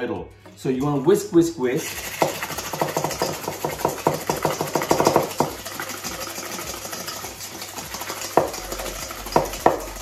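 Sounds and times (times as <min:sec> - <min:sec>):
whisk swishing: 0:01.8 - 0:10.0
whisk clicking in metal bowl: 0:01.9 - 0:10.0.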